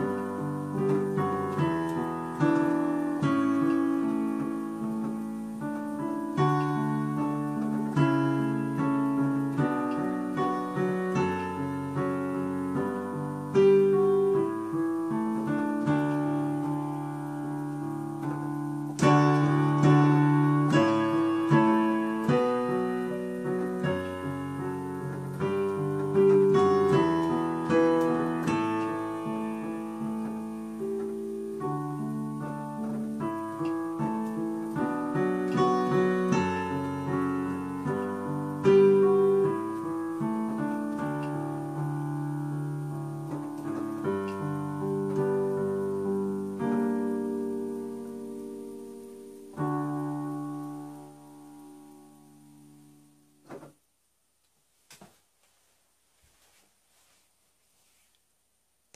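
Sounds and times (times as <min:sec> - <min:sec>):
piano playing hymn melody: 0:00.0 - 0:53.6.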